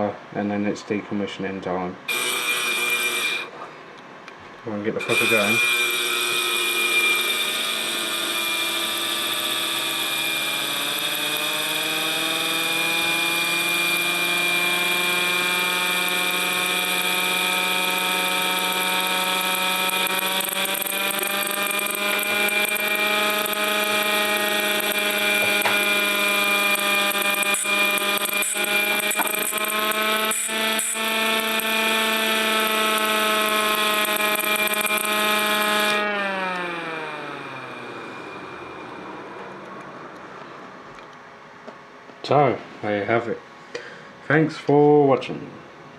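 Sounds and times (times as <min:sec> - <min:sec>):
constant high whine: 0:02.0 - 0:44.0.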